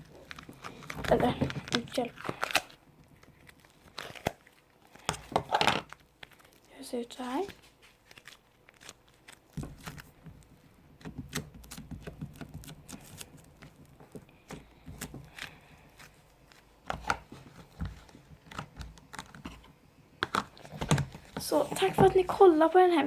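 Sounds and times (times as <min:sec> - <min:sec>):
hands kneading slime: 0:00.0 - 0:23.0.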